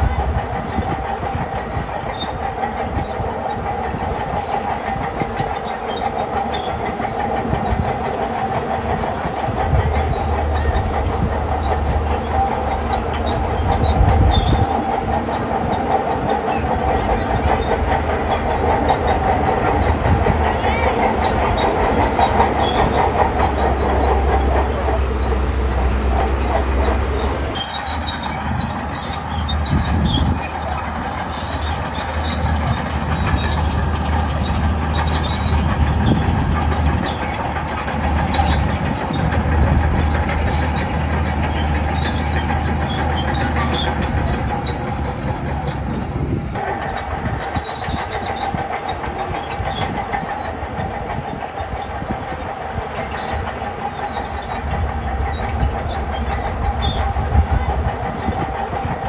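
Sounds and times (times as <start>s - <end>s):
bulldozer diesel engine running: 0.0s - 59.0s
steel tracks clanking and squeaking: 0.0s - 59.0s.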